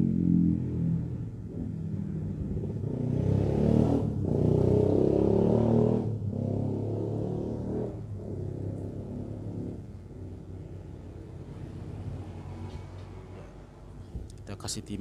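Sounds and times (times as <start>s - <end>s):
vehicle engine revving: 0.0s - 13.8s.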